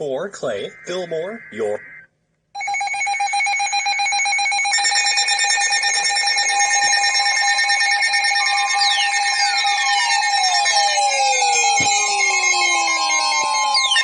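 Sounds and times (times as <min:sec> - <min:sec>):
shrill pulsing alert tone: 0:00.5 - 0:02.0, 0:04.2 - 0:14.0.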